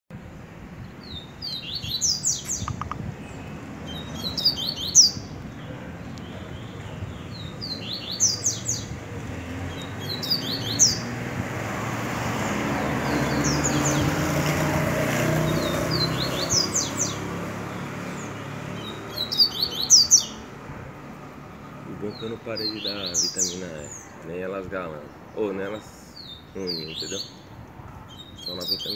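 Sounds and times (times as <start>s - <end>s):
canary singing: 1.0s - 11.2s, 12.8s - 20.6s, 21.6s - 24.2s, 24.9s - 28.9s.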